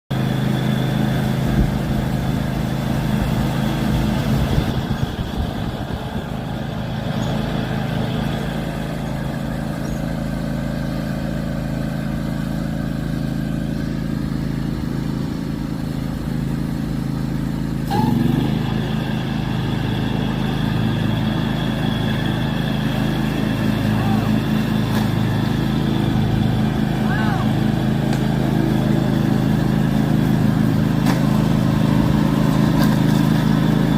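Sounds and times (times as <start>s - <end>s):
riding lawn mower running: 0.1s - 33.9s.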